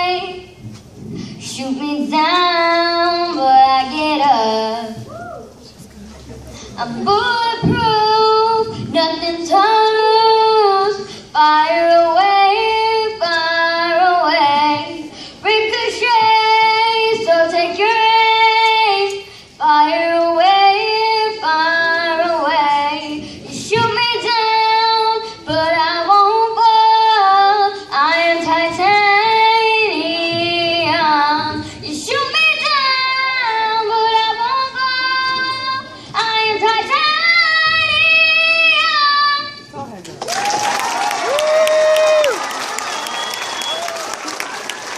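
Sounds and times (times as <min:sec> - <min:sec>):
girl singing into a microphone: 0:00.0 - 0:05.6, 0:06.6 - 0:39.7.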